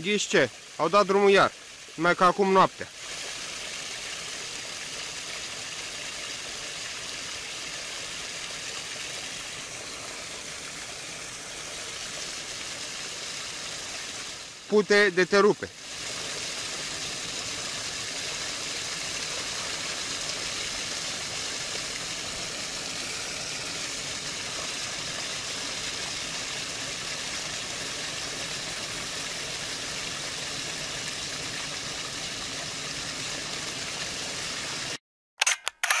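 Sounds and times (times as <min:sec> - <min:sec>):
water gushing from pipe: 0:00.0 - 0:35.0.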